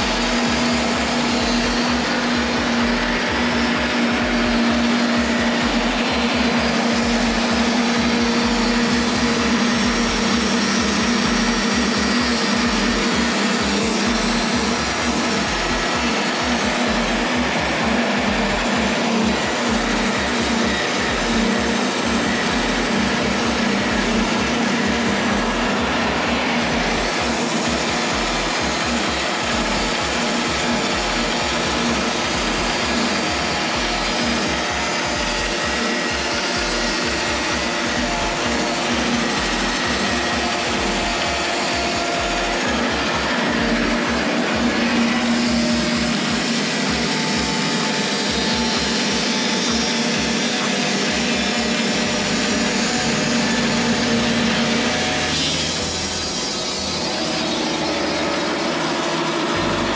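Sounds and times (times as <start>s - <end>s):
band sawmill cutting log: 0.0s - 59.9s.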